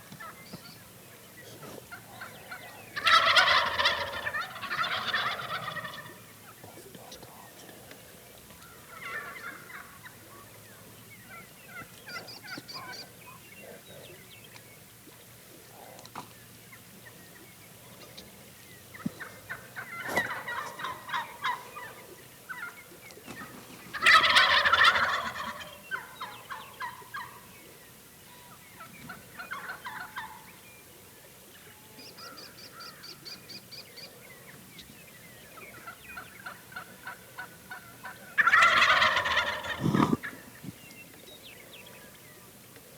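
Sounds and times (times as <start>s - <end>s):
wild turkeys gobbling: 0.0s - 42.9s.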